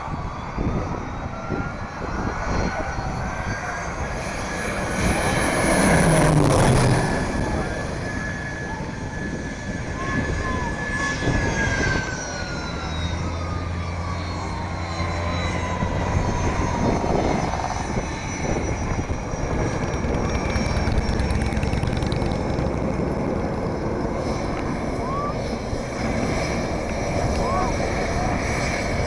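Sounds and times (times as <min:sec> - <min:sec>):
jet engine whine: 0:00.0 - 0:29.0
low jet rumble: 0:00.0 - 0:29.0.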